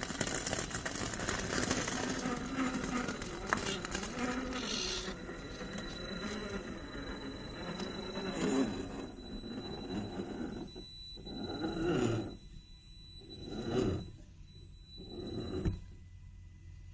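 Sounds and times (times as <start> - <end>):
electric motor whining: 0.0 - 16.7.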